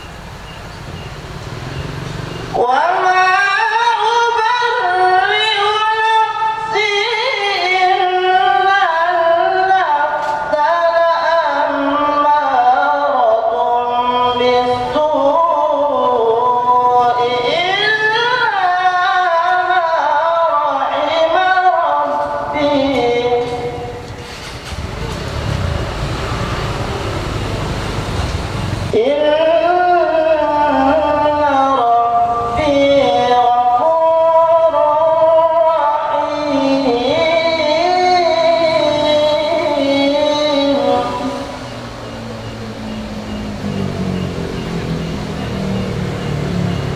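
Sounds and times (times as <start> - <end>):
man reciting melodically: 1.8 - 24.5, 28.8 - 46.9.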